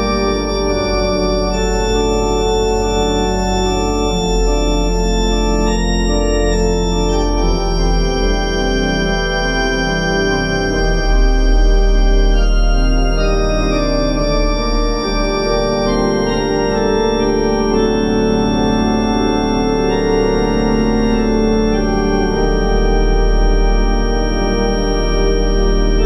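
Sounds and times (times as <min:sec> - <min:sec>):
low organ pedal note: 0:00.0 - 0:26.0
organ playing sustained chords: 0:00.0 - 0:26.0.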